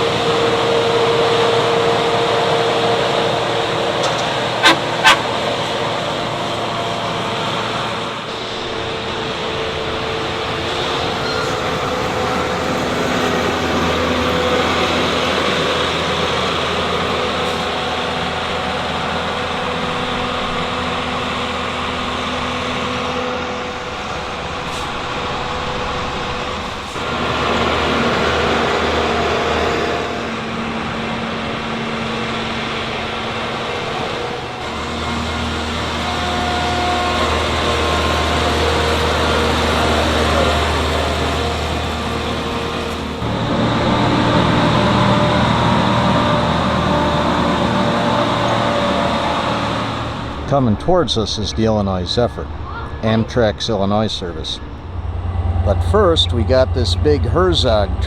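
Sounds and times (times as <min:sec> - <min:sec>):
train passing rumble: 0:00.0 - 0:58.0.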